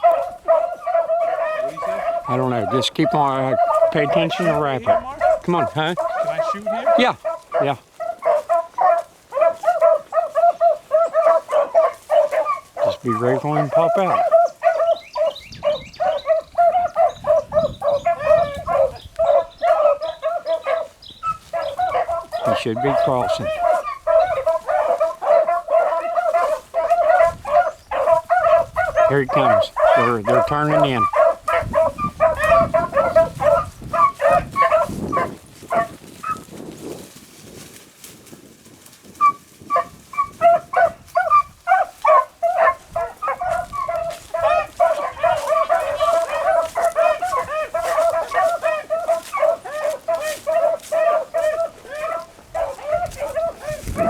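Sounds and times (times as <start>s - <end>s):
hounds baying and yelping: 0.0s - 54.0s.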